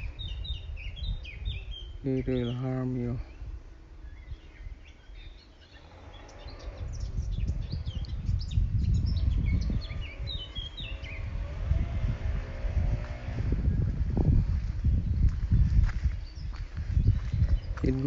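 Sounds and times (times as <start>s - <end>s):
low rumbling noise: 0.0s - 18.0s
small birds chirping: 0.0s - 18.0s.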